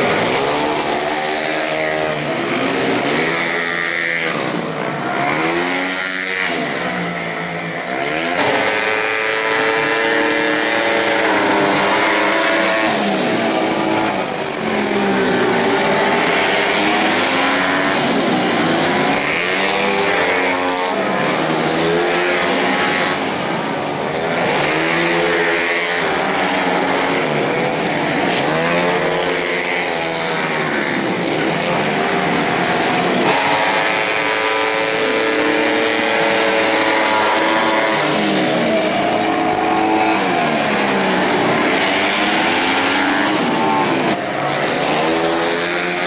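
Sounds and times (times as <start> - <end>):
race motorcycles revving: 0.0 - 46.0.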